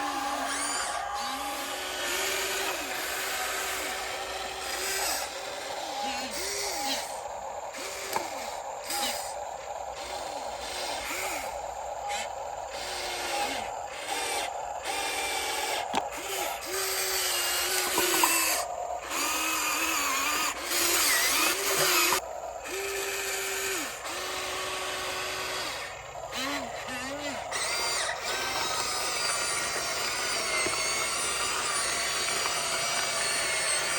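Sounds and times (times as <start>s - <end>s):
small electric motor whining: 0.0s - 33.9s.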